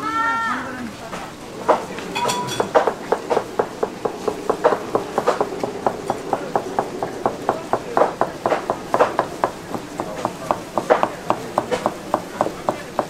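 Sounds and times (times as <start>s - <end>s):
knife chopping on plastic board: 1.7s - 13.0s.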